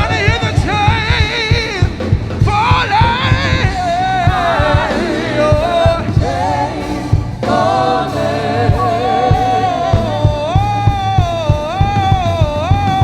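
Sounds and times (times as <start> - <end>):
band with steady drum beat: 0.0 - 13.0
voices singing gospel: 0.0 - 13.0.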